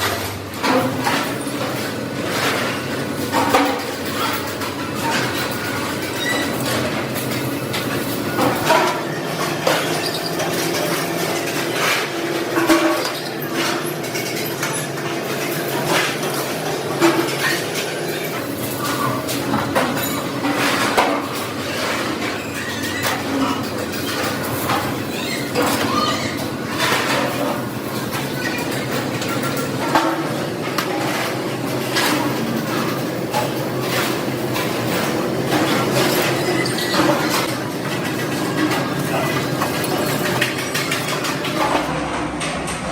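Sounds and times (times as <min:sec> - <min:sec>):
factory machinery noise: 0:00.0 - 0:42.9.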